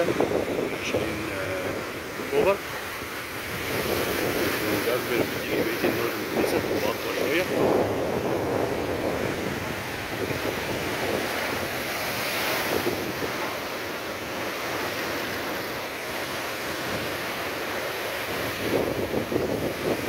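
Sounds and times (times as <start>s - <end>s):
waves breaking and washing in: 0.0s - 20.0s
wind buffeting the microphone: 0.0s - 20.0s.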